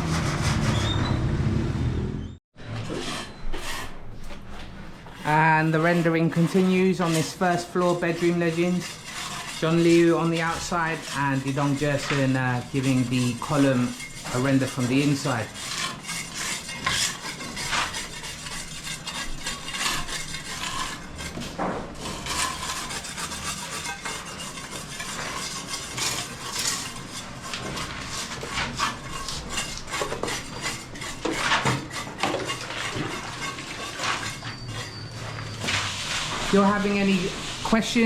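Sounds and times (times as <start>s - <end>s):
trowels scraping wet cement: 5.1s - 38.0s.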